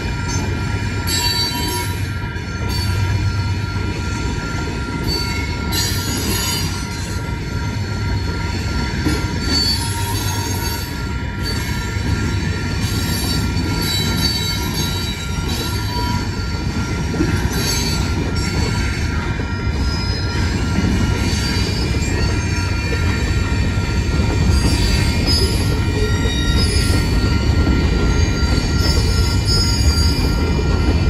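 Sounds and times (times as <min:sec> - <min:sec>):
train wheels rumbling on rail: 0:00.0 - 0:31.0
high-pitched wheel squeals: 0:00.1 - 0:31.0.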